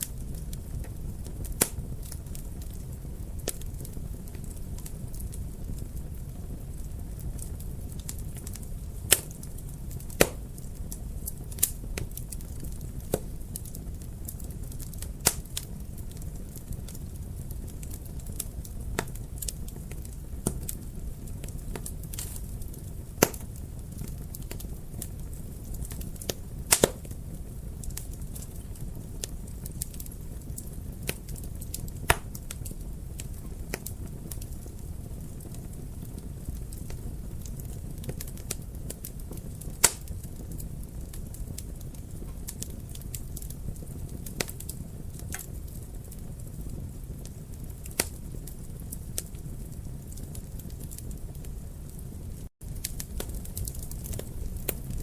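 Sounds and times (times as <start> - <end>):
fire popping and snapping: 0.0 - 55.0
low rumble of flames: 0.0 - 55.0.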